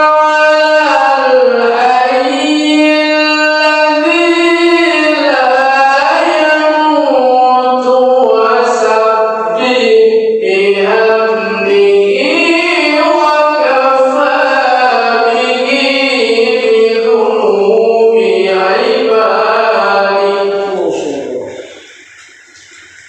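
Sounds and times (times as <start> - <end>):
man chanting melodic recitation: 0.0 - 23.0.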